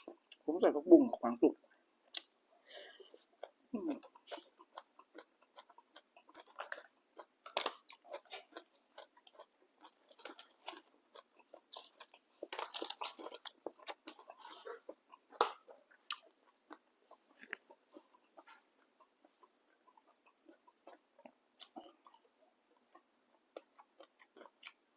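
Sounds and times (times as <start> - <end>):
person chewing food: 0.0 - 0.5, 1.6 - 24.9.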